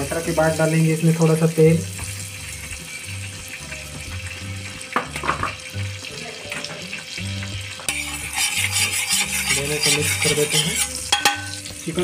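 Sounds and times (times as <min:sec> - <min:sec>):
butter sizzling in a frying pan: 0:00.0 - 0:12.0.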